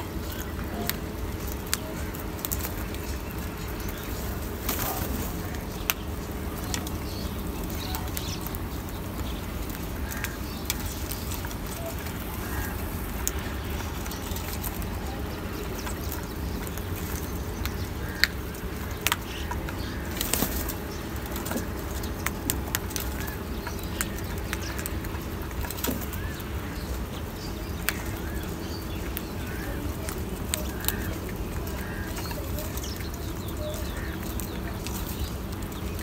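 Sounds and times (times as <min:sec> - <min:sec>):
low background rumble: 0:00.0 - 0:36.0
wings flapping: 0:00.1 - 0:36.0.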